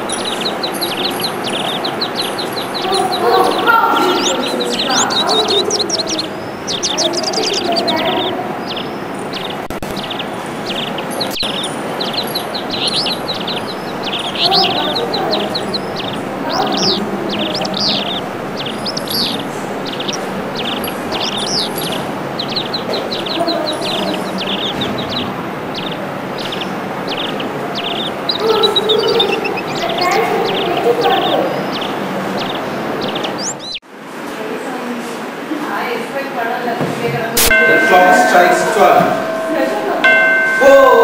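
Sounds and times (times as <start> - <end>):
flock of small birds chirping: 0.0 - 33.8, 37.4 - 41.0
low background noise: 0.0 - 41.0.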